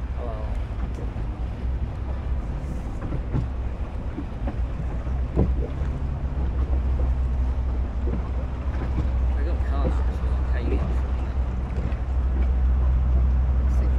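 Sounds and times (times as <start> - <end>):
boat engine rumbling: 0.0 - 13.9.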